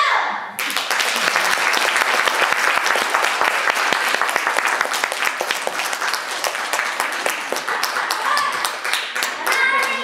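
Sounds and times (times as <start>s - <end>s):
audience applauding: 0.6s - 10.0s.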